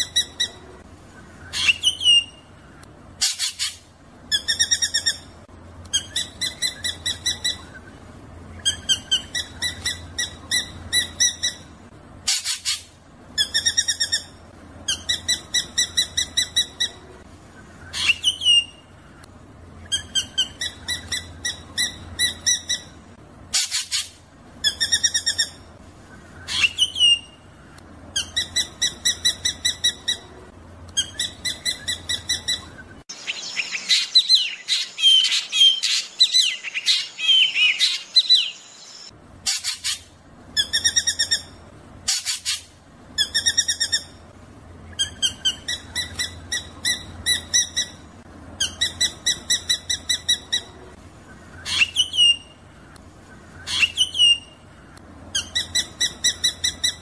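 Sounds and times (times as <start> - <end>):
bird singing rolling song: 0.0 - 57.0
sharp down-slurred bird calls: 0.0 - 57.0.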